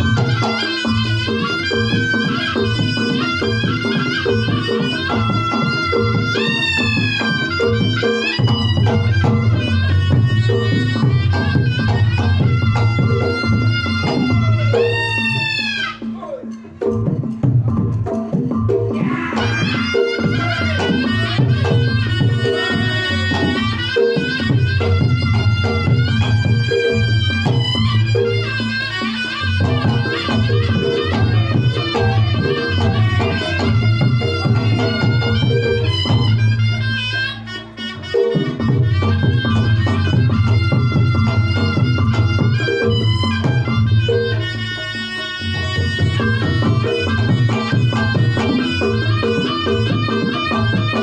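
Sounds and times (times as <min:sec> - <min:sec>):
fast hand drumming: 0:00.0 - 0:37.0, 0:38.1 - 0:51.0
shawm wailing melody: 0:00.0 - 0:51.0.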